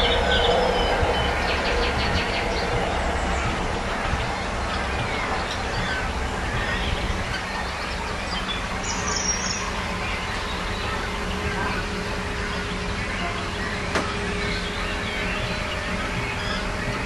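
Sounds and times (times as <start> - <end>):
distant traffic rumble: 0.0 - 17.0
wild birds singing: 0.0 - 17.0.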